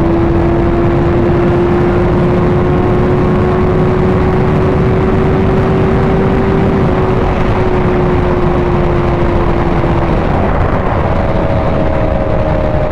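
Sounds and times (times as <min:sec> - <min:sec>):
motorcycle engine cruising: 0:00.0 - 0:12.9
wind rush on microphone: 0:00.0 - 0:12.9.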